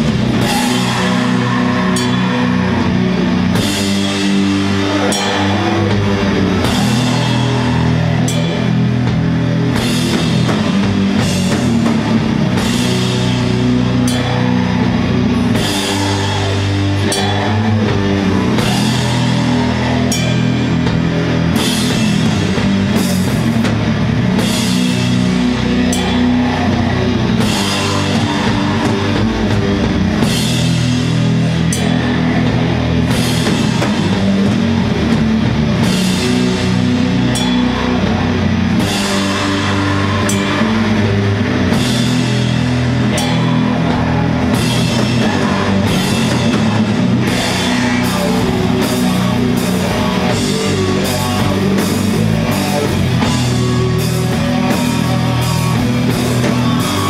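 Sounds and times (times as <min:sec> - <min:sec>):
doom metal band playing: 0:00.0 - 0:57.0.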